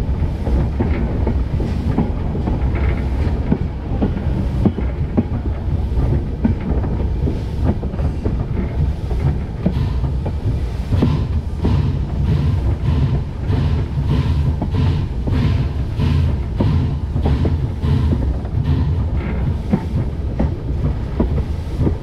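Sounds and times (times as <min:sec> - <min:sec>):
steam locomotive rumble: 0:00.0 - 0:22.0.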